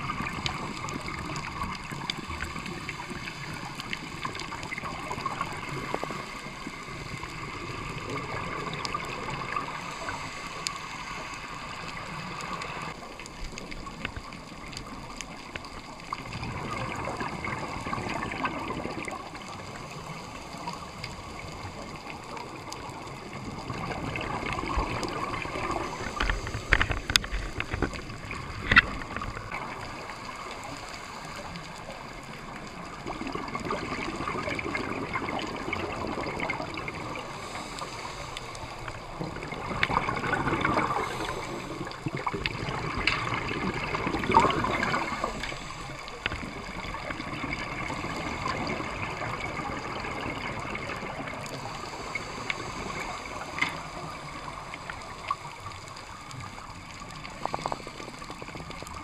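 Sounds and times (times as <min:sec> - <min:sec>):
underwater exhaled bubbles gurgling: 0:00.0 - 0:59.0.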